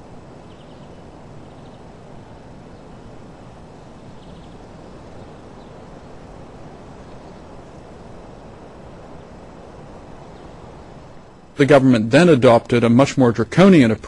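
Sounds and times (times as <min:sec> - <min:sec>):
low outdoor background noise: 0:00.0 - 0:14.0.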